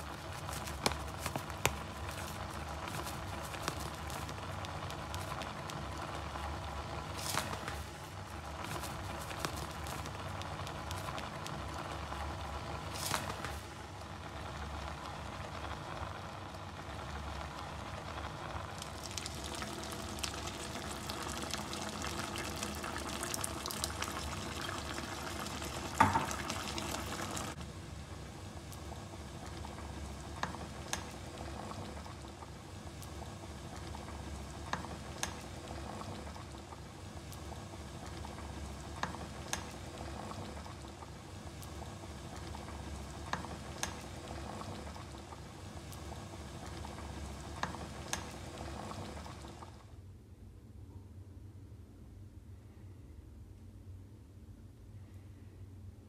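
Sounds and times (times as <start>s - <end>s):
stew bubbling in a pot: 0.0s - 27.6s, 28.8s - 49.8s
crackling sizzle: 0.0s - 50.0s.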